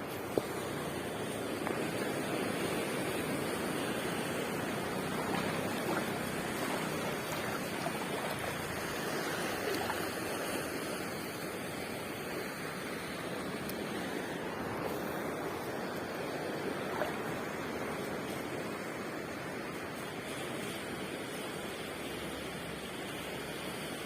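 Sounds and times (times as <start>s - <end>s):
sea surf washing on beach: 0.0s - 24.0s.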